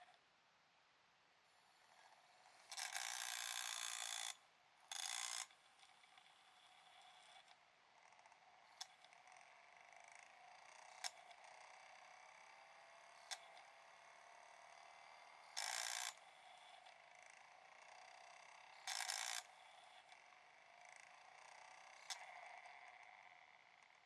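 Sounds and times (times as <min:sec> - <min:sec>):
faint drive whir: 0:01.4 - 0:24.0.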